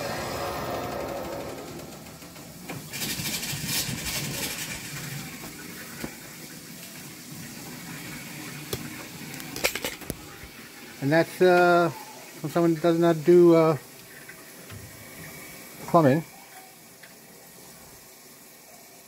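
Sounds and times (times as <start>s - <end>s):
water rushing through pipes: 0.0s - 19.0s.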